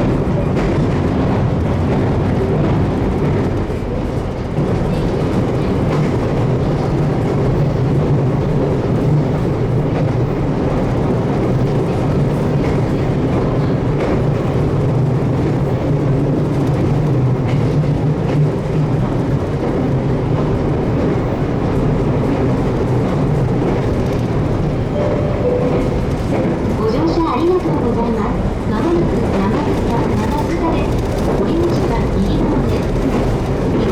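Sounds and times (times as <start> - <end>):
electric train rumbling: 0.0 - 33.9.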